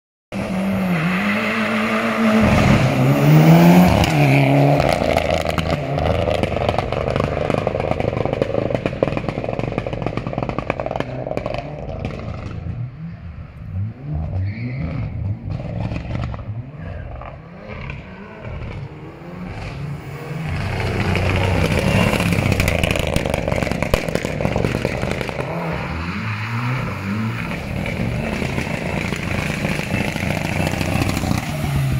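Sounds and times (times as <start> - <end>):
rally car engine revving: 0.3 - 31.9
engine crackling on limiter: 2.4 - 12.9, 14.9 - 31.9.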